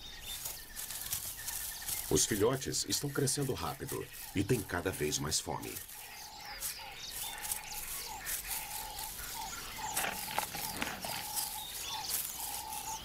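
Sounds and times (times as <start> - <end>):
rustling crackles: 0.0 - 13.0.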